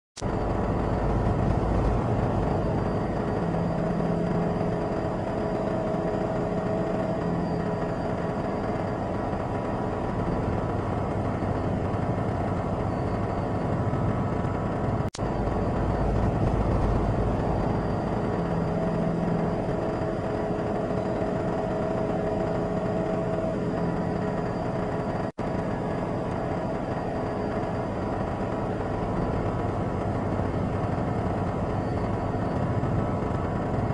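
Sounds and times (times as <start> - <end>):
faint steady tones: 0.2 - 33.9
vehicle engine noise: 0.2 - 33.9.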